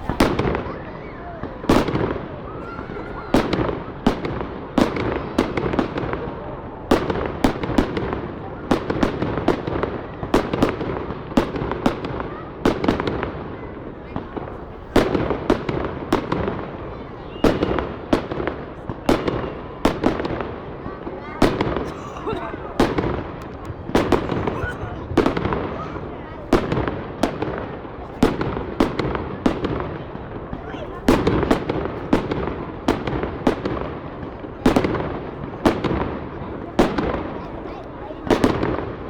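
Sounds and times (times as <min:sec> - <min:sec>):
fireworks bursting with sharp bangs: 0:00.0 - 0:39.0.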